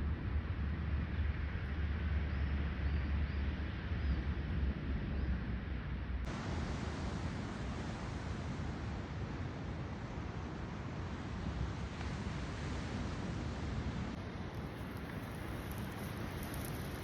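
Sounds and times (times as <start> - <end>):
wind buffeting microphone: 0.3 - 17.0.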